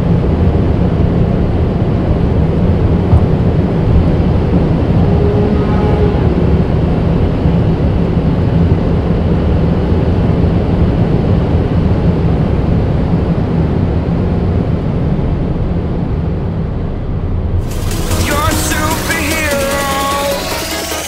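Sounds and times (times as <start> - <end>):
wind and road noise: 0.0 - 17.8
low engine drone: 0.0 - 21.0.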